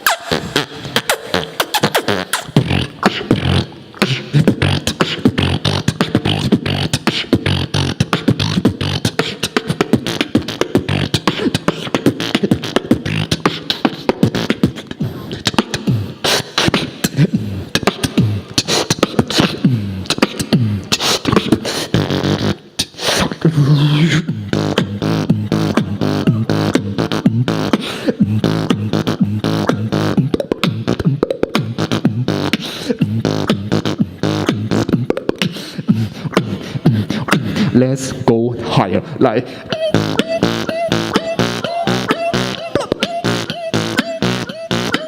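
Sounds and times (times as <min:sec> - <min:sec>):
person beatboxing: 0:00.0 - 0:45.0.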